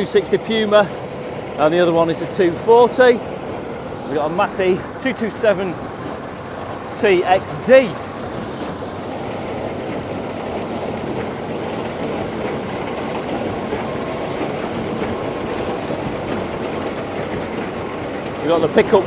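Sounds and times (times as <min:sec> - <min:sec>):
baler machinery running: 0:00.0 - 0:19.0
tractor engine: 0:00.0 - 0:19.0.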